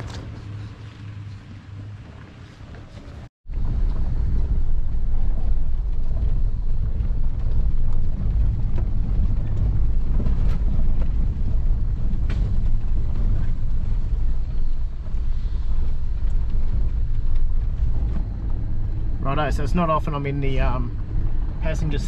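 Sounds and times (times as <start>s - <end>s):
car engine rumble: 0.0s - 22.0s.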